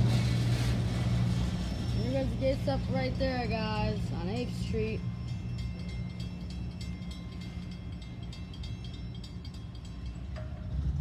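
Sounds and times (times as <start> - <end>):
freight train rumbling on rails: 0.0 - 11.0
thin high wheel tones: 0.0 - 11.0.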